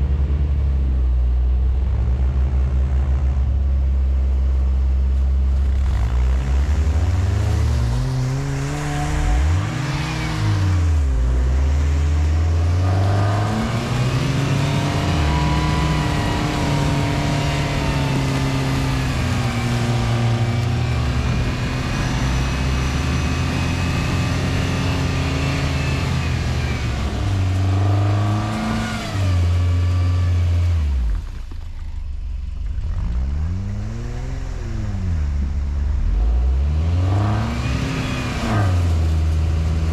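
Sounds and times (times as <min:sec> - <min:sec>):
quad bike engines revving: 0:01.7 - 0:04.3, 0:05.1 - 0:31.8, 0:32.6 - 0:39.9.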